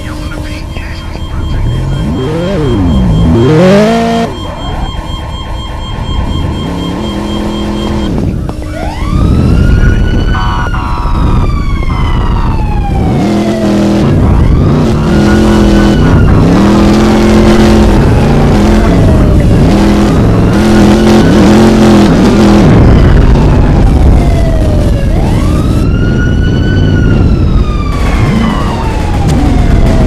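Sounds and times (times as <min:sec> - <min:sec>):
car engine revving: 0:00.0 - 0:30.0
siren wailing: 0:00.0 - 0:30.0.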